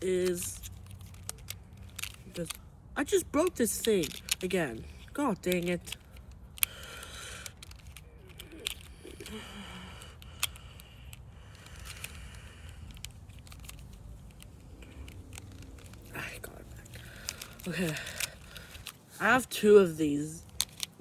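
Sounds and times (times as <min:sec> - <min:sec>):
plastic puzzle cube clicking: 0:00.1 - 0:21.0.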